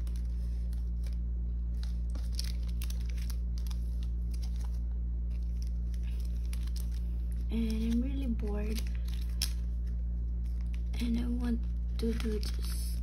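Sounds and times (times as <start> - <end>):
plastic sleeves crinkling: 0.0 - 13.0
steady low hum: 0.0 - 13.0.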